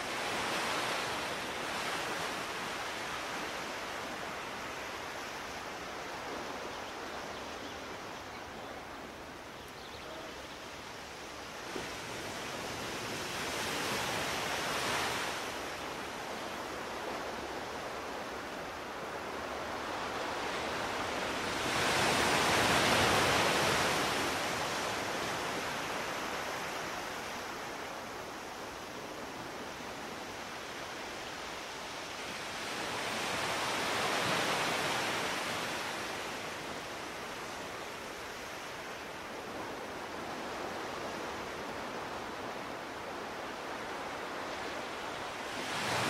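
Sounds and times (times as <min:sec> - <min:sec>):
ocean surf washing ashore: 0:00.0 - 0:07.2, 0:10.4 - 0:46.0.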